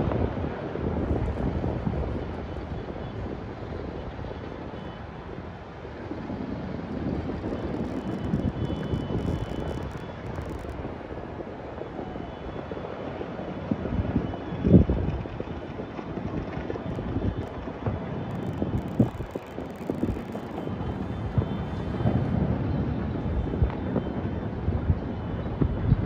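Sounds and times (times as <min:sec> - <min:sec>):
distant fireworks rumble: 0:00.0 - 0:26.0
wind on microphone: 0:00.0 - 0:26.0.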